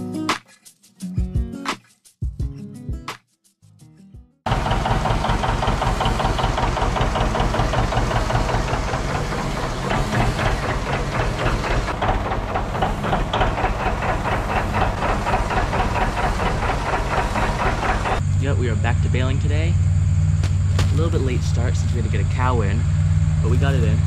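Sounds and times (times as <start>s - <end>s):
tractor engine running: 4.5s - 24.0s.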